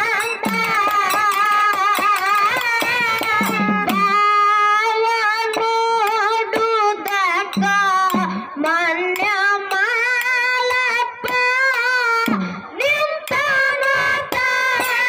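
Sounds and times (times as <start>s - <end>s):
girl singing into a microphone: 0.0s - 15.0s
hand cymbals struck: 0.0s - 15.0s.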